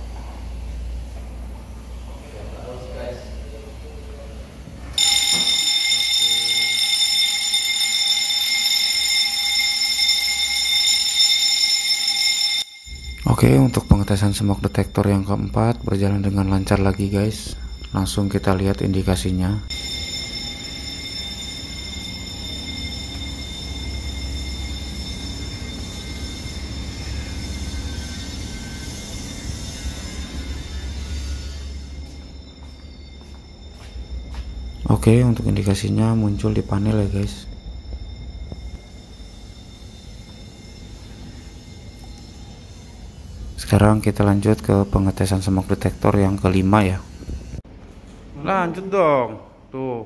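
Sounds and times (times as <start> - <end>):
fire alarm tone: 5.0 - 47.5.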